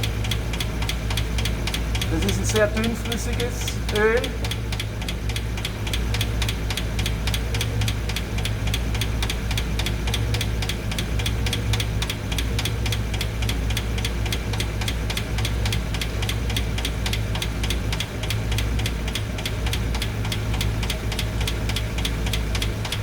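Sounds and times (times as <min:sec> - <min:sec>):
engine idling hum: 0:00.0 - 0:23.0
valve train ticking: 0:00.0 - 0:23.0.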